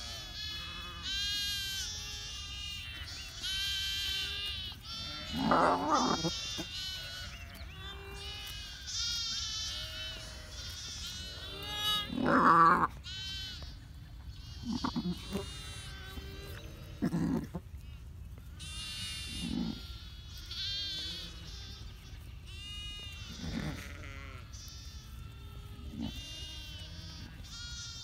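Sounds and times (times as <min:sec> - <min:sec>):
adult sheep bleating: 0:00.0 - 0:28.0
lambs bleating: 0:00.0 - 0:28.0.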